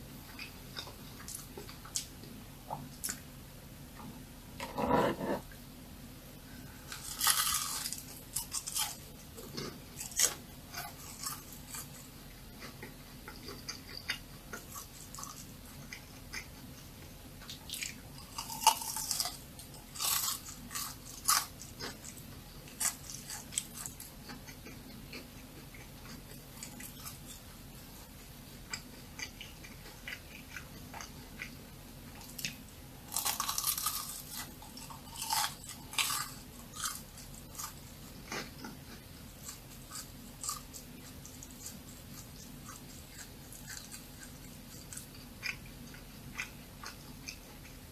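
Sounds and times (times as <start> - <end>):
crunching and chewing fried food: 0.2 - 3.3, 6.5 - 47.9.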